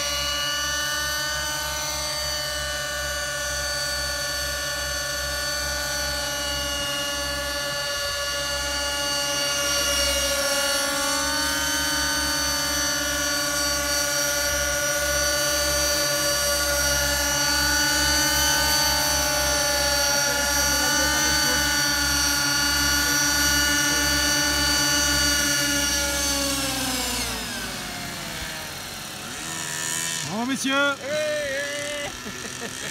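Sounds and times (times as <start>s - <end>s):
model helicopters whining: 0.0s - 32.9s.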